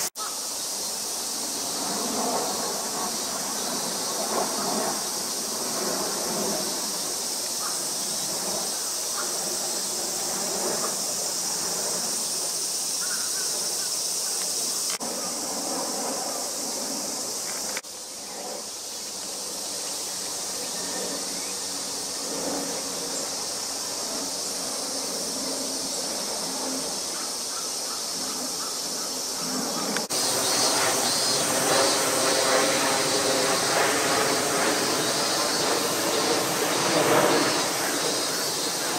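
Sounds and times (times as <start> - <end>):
insects buzzing: 0.0 - 38.9
jet airliner passing overhead: 0.0 - 38.9.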